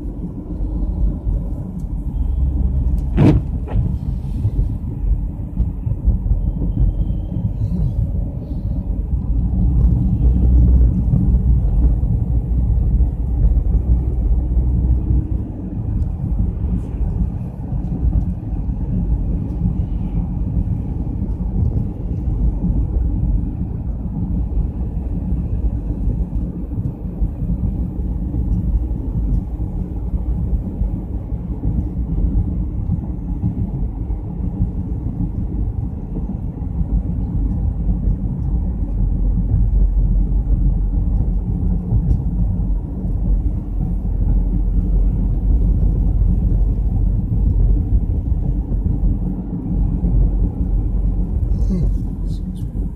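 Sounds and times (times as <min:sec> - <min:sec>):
road and engine noise inside car: 0:00.0 - 0:52.9.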